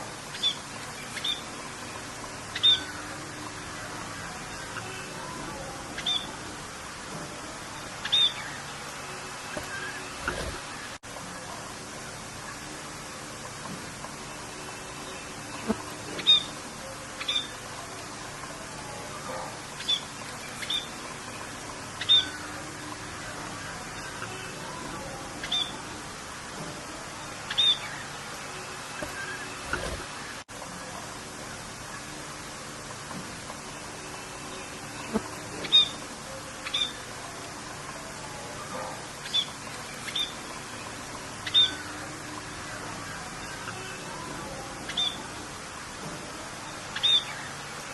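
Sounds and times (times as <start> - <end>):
birds chirping: 0.0 - 11.0, 12.1 - 30.4, 31.8 - 47.9
rain hiss: 0.0 - 47.9.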